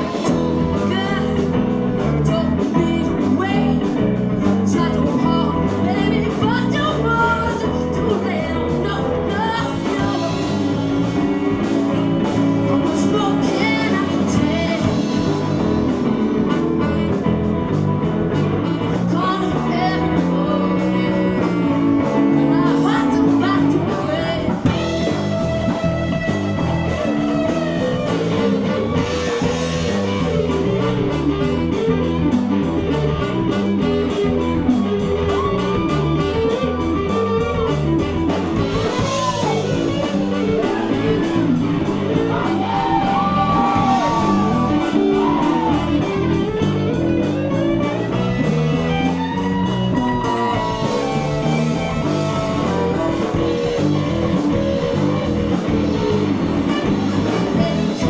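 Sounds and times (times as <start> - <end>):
rock and roll band playing: 0.0 - 58.0
saxophone sliding lead notes: 0.0 - 58.0.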